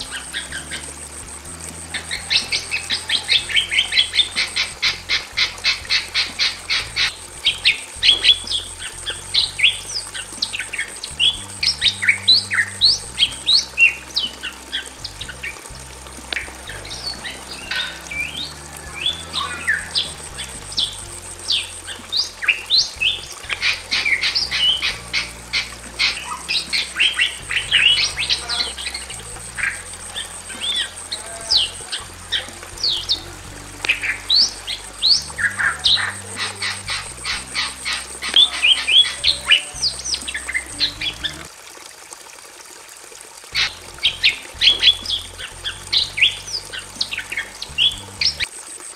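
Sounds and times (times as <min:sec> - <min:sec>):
mynas calling: 0:00.0 - 0:41.5, 0:43.5 - 0:48.5.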